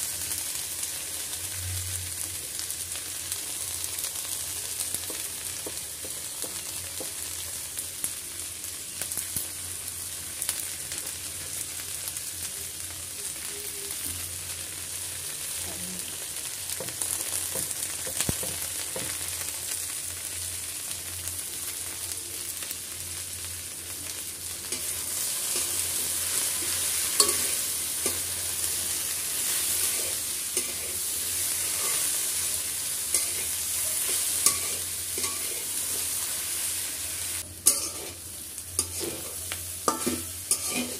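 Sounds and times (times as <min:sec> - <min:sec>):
vegetables sizzling in oil: 0:00.0 - 0:40.9.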